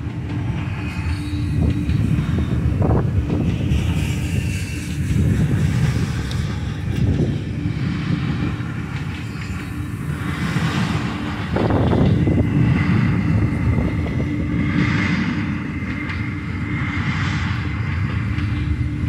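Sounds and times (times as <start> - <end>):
steel wheels rumbling on rail: 0.0 - 19.0.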